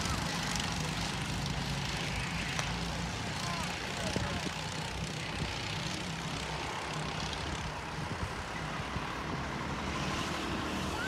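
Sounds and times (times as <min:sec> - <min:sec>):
go-kart engines droning: 0:00.0 - 0:11.0.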